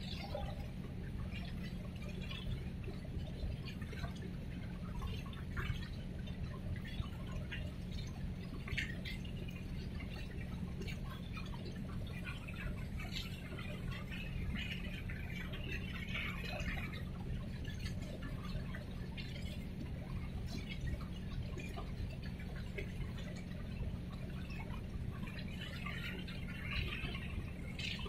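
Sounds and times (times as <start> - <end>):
water lapping and splashing: 0.0 - 28.0.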